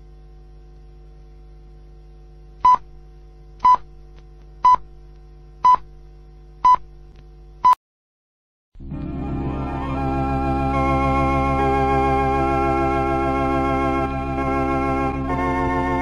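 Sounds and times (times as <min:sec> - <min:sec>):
steady low hum: 0:00.0 - 0:07.7, 0:08.8 - 0:16.0.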